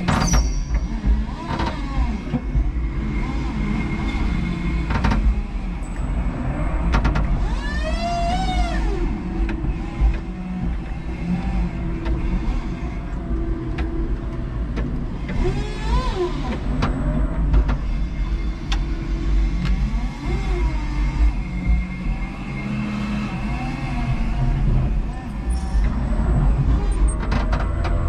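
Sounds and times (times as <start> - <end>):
forklift hum and rumble: 0.0 - 28.0
electric motor whine: 0.8 - 27.1.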